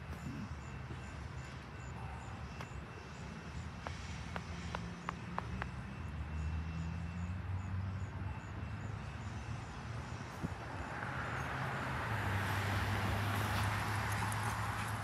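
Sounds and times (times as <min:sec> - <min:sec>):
low rumble of passing train: 0:00.0 - 0:15.0.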